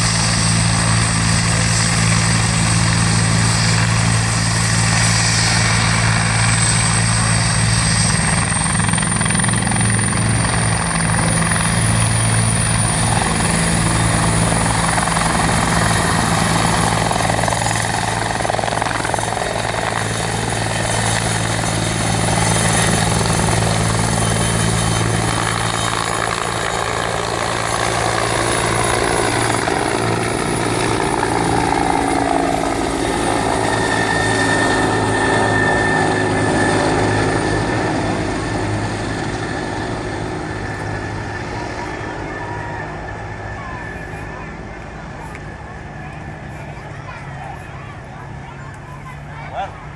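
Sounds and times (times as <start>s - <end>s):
helicopter rotor beat: 0.0s - 49.9s
turbine whine: 0.0s - 49.9s.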